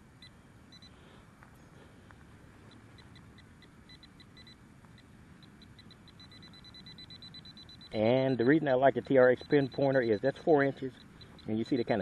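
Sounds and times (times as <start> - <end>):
pinpointer short high beeps: 0.2 - 1.0, 2.7 - 12.0.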